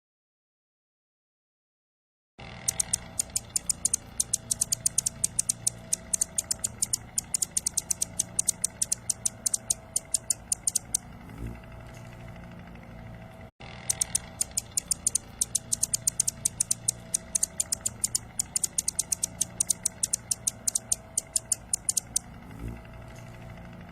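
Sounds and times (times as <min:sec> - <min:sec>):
sparrows chirping: 0:02.5 - 0:12.9, 0:13.8 - 0:23.6.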